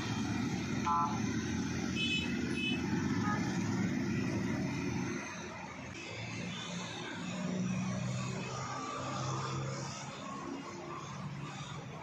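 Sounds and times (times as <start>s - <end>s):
go-kart engine drone: 0.0s - 12.0s.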